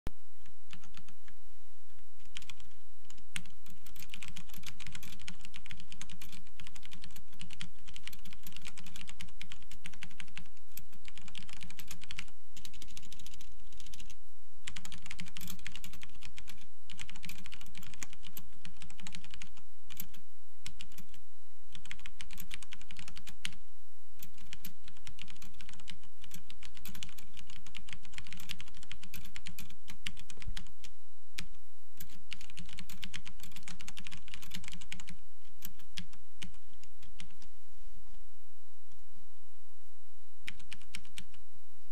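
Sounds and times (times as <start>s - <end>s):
mechanical keyboard typing: 0.7s - 1.2s, 2.2s - 23.6s, 24.2s - 37.5s, 40.4s - 41.4s.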